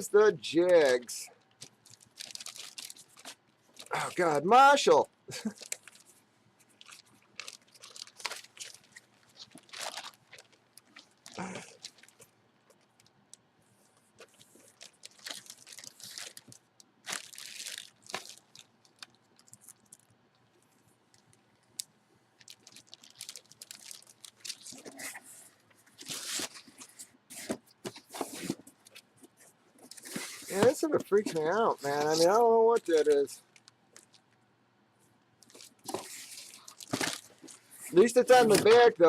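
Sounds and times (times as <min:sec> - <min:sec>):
plastic packaging crinkling: 0:00.7 - 0:13.1, 0:14.2 - 0:34.4, 0:35.4 - 0:39.0.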